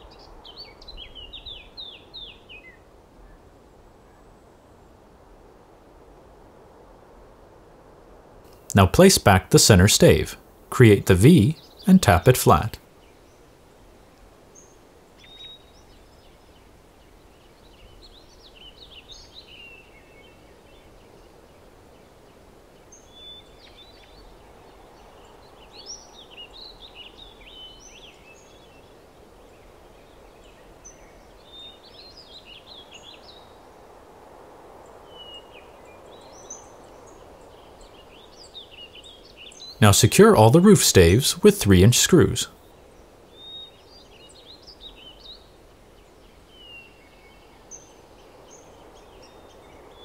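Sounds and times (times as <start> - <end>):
small birds chirping: 0.0 - 2.8, 8.5 - 13.5, 14.5 - 33.7, 34.8 - 50.0
faint background hiss: 0.0 - 50.0.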